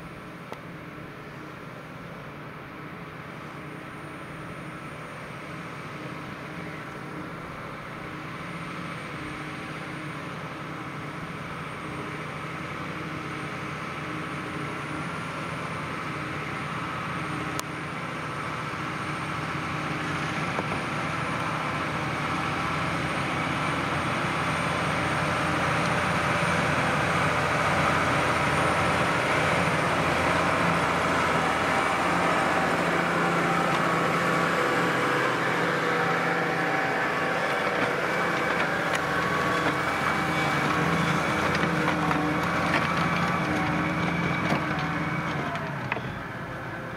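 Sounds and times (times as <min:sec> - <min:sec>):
tractor diesel engine under load: 0:00.0 - 0:46.9.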